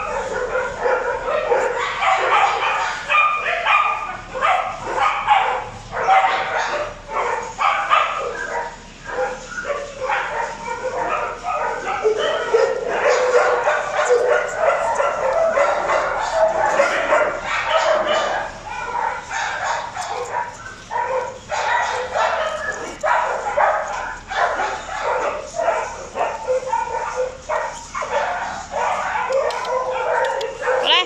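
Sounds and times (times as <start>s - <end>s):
dogs barking and yipping: 0.0s - 31.0s.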